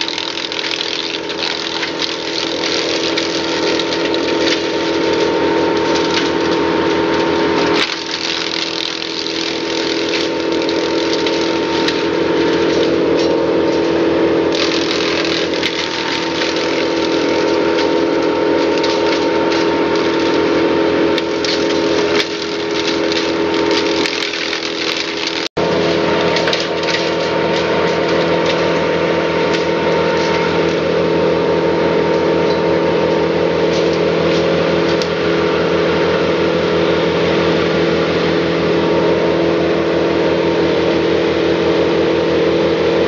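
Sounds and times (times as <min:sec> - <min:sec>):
branches crackling and splintering: 0:00.0 - 0:36.1
wood chipper engine drone: 0:00.0 - 0:43.0.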